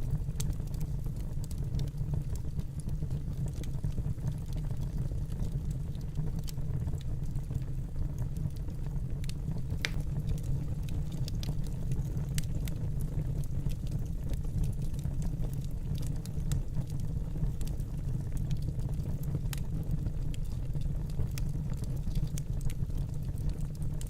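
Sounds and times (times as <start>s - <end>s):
fire crackles and pops: 0.0s - 24.0s
fire rumbling: 0.0s - 24.0s.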